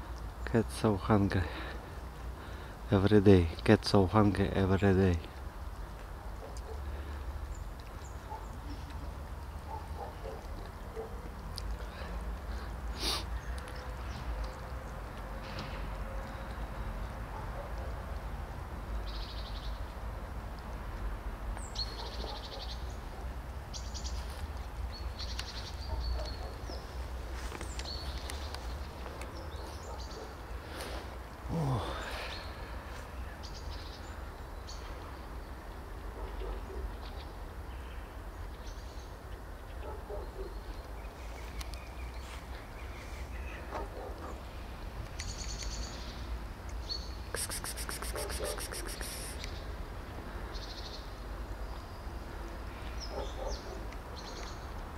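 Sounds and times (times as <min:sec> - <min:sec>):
small birds chirping: 0:00.0 - 0:18.2, 0:18.9 - 0:20.0, 0:21.5 - 0:54.9.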